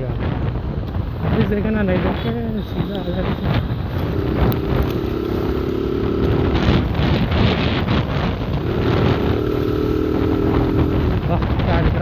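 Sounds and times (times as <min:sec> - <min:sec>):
wind noise on microphone: 0:00.0 - 0:12.0
motorcycle engine running: 0:01.0 - 0:12.0.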